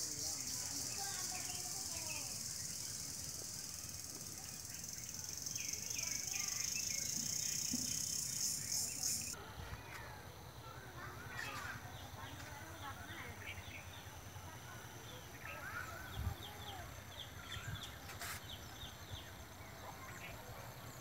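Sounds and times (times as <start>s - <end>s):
birds chirping: 0.0s - 9.4s, 11.0s - 21.0s
insects chorus: 0.0s - 21.0s.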